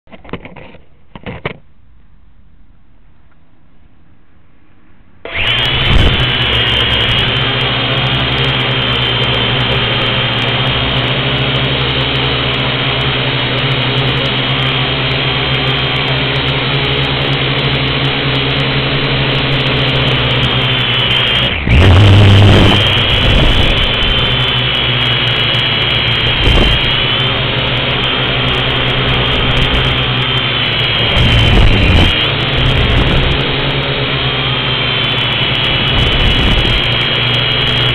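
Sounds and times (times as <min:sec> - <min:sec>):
quadcopter motors whining: 0:05.2 - 0:37.9.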